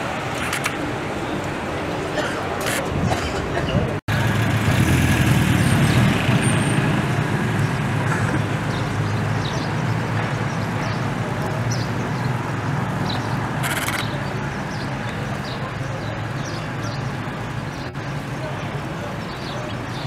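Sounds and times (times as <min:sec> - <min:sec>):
traffic engine rumble: 0:00.0 - 0:20.0.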